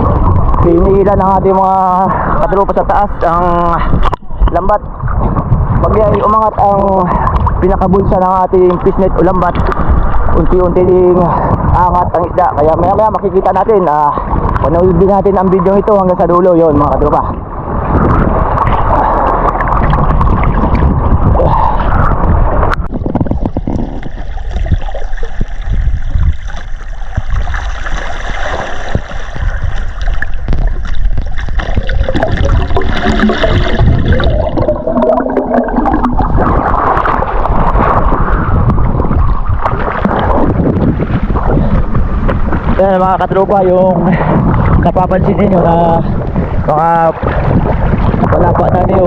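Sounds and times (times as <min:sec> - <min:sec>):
seawater gurgling and sloshing: 0:00.0 - 0:49.0.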